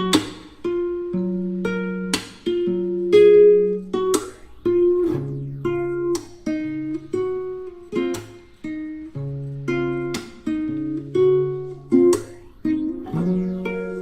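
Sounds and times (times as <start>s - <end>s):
acoustic guitar plucking melody: 0.0s - 14.0s.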